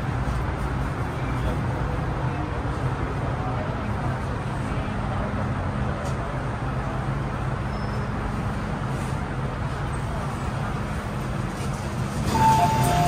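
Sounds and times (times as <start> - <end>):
train running with low hum: 0.0 - 13.0.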